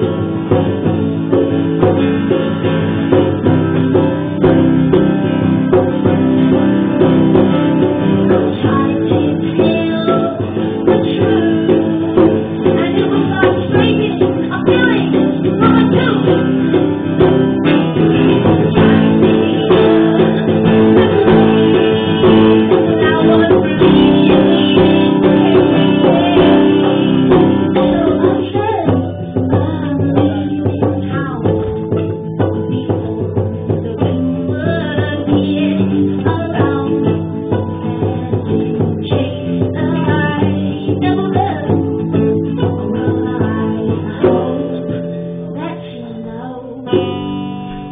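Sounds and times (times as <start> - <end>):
hand drum: 0.0 - 47.9
strummed guitar: 0.0 - 47.9
person singing: 6.5 - 47.8.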